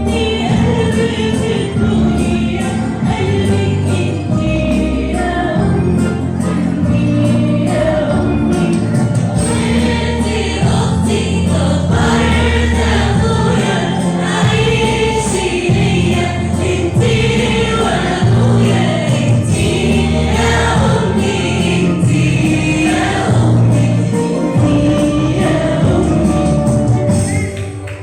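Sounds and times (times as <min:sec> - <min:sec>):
choir singing a hymn: 0:00.0 - 0:27.5
instrumental backing: 0:00.0 - 0:28.0.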